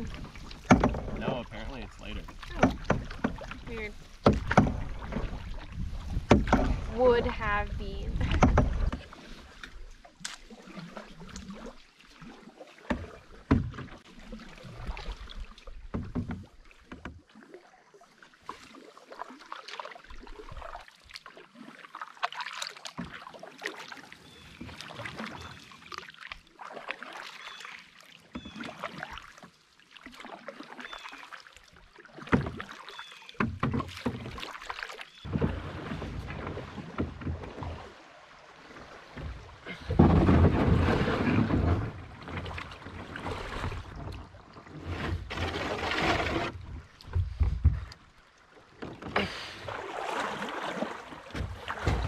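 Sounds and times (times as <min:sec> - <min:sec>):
paddles splashing in water: 0:00.0 - 0:52.0.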